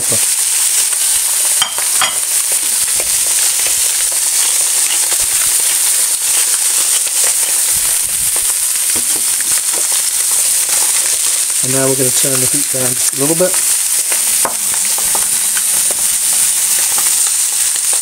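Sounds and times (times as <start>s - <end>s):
fish frying in oil: 0.0s - 18.0s.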